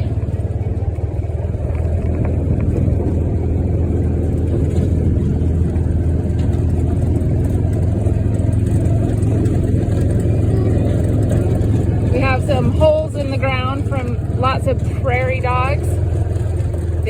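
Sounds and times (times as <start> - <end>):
utility vehicle engine drone: 0.0 - 17.0.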